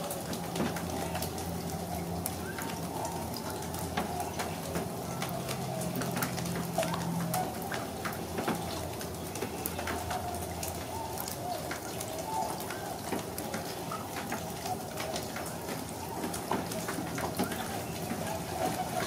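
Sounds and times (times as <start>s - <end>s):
swans calling: 0.9s - 19.0s.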